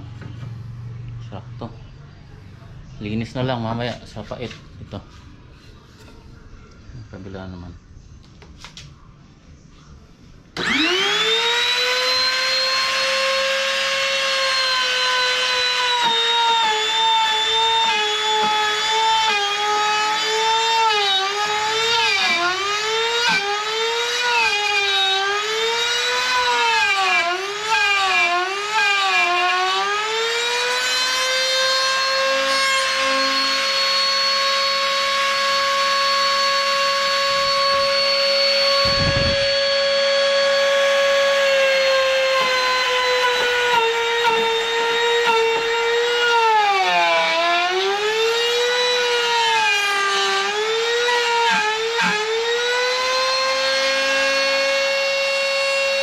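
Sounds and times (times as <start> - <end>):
router whining and cutting wood: 10.6 - 56.0.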